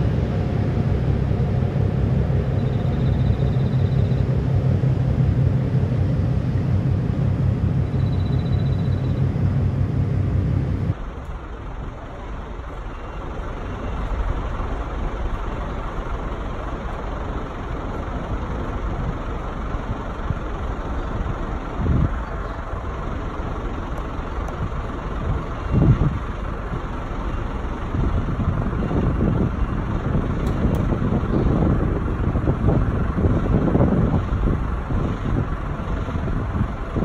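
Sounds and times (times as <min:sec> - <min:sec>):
engines idling: 0:00.0 - 0:37.0.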